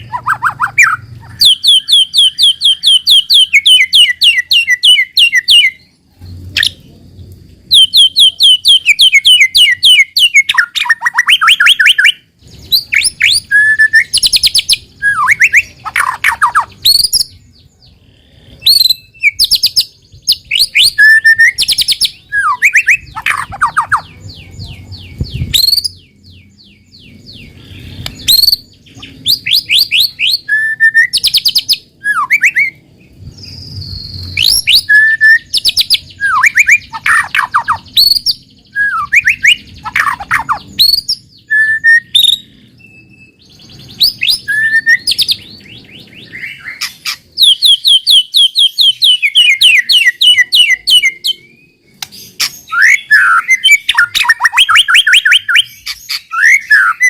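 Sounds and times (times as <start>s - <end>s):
songbird singing varied song: 0.0s - 57.0s.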